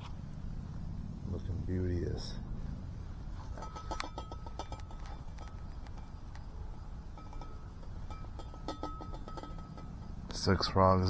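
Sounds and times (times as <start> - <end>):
camp stove burning rumble: 0.0 - 11.0.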